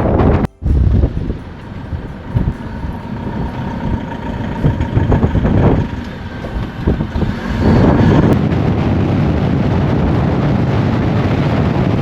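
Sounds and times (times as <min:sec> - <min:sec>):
road rumble: 0:00.0 - 0:12.0
vehicle engine: 0:00.0 - 0:12.0.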